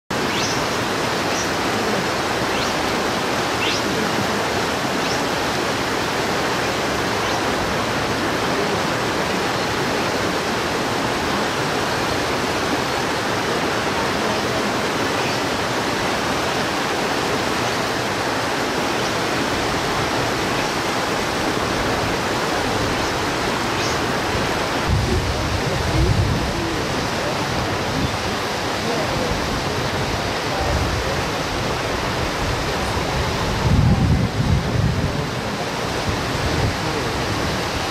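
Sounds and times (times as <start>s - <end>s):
mountain stream rushing: 0.1s - 37.9s.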